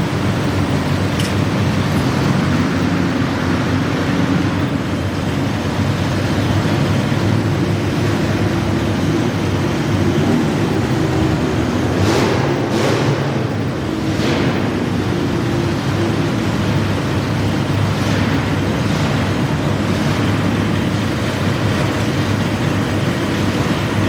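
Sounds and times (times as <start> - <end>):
garden tractor engine running: 0.0 - 24.0.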